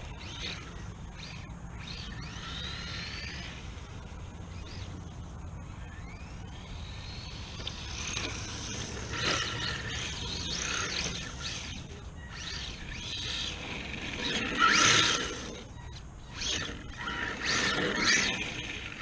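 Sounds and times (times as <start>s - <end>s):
electric rc car motor whine: 0.0s - 5.1s, 5.7s - 19.0s.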